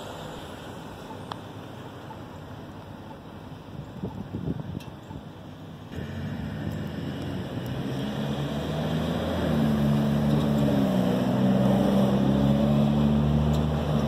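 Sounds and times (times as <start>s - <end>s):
traffic engine hum: 0.0s - 14.0s.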